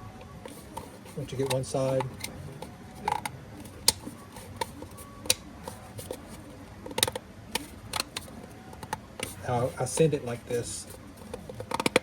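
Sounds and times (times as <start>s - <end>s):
plastic parts clicking and creaking: 0.2s - 12.0s.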